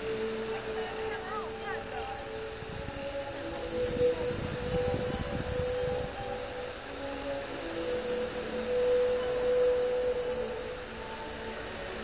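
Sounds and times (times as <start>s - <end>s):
hiss of spraying water jets: 0.0s - 12.0s.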